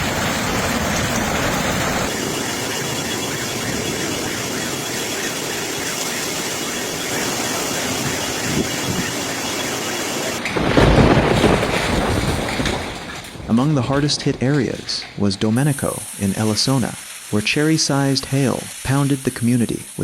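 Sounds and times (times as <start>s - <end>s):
heavy rain: 0.0s - 20.0s
wind: 0.0s - 20.0s.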